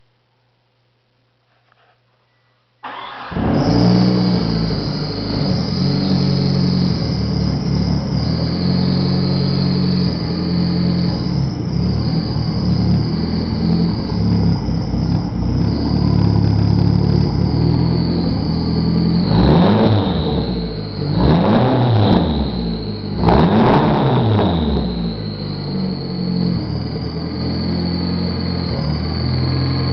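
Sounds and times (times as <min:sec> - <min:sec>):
car engine revving: 0:02.9 - 0:29.9
car engine rough idle: 0:02.9 - 0:29.9.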